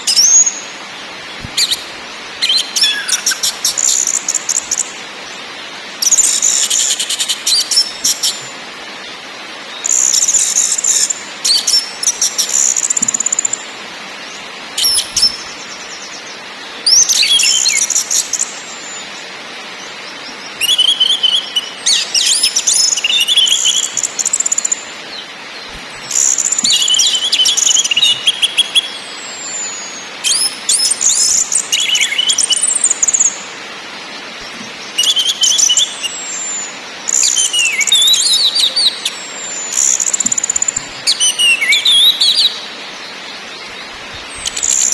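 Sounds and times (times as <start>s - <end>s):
background hiss: 0.0s - 44.9s
thrush singing trills and whistles: 0.0s - 44.9s.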